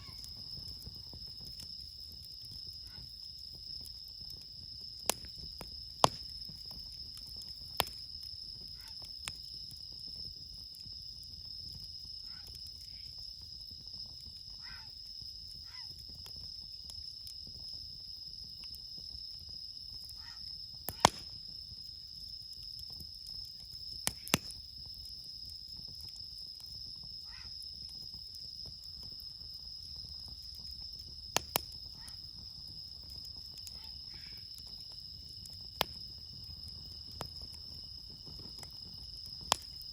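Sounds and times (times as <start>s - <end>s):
campfire cracking and popping: 0.0s - 39.9s
night insects chirring: 0.0s - 39.9s.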